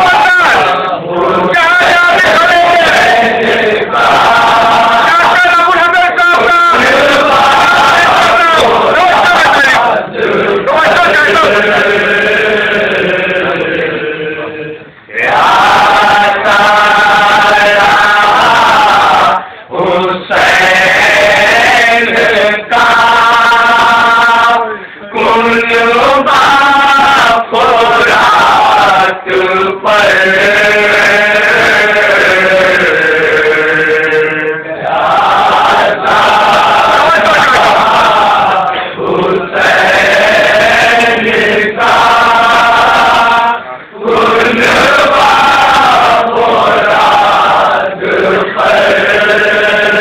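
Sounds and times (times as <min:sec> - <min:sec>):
lead reciter singing: 0:00.0 - 0:50.0
men chanting a lament: 0:00.0 - 0:50.0.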